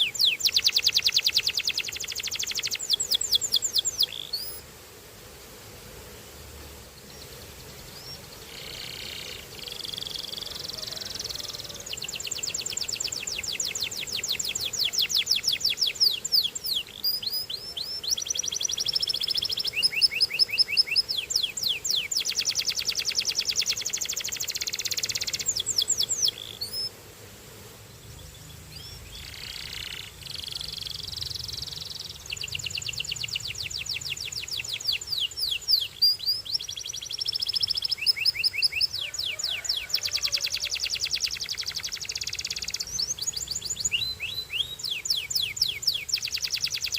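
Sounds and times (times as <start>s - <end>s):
canary singing trills: 0.0s - 4.6s, 7.1s - 26.9s, 28.0s - 46.9s.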